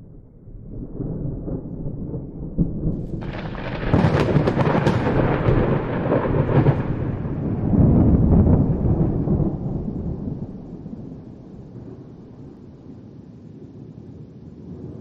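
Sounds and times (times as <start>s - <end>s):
thunder rumbling and crackling: 0.0s - 15.0s.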